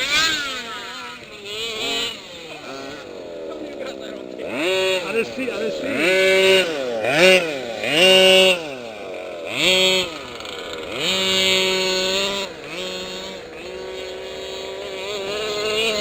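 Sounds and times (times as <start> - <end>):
small two-stroke engine revving: 0.0 - 16.0.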